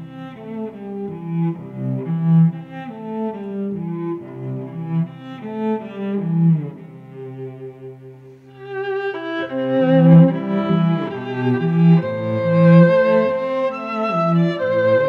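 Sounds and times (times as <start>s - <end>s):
low bowed strings melody: 0.0s - 15.0s.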